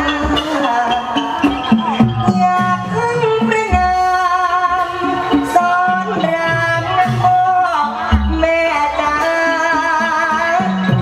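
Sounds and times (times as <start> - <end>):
person singing wavering notes: 0.0 - 11.0
traditional instrumental accompaniment: 0.0 - 11.0.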